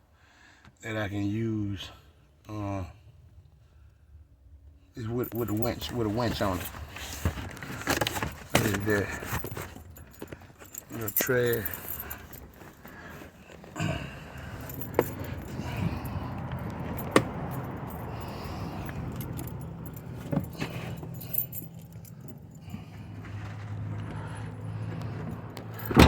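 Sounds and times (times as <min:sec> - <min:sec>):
low steady hum: 0:02.6 - 0:26.0
metallic jingling and rattling: 0:05.0 - 0:26.0
items handled in car trunk: 0:05.1 - 0:26.0.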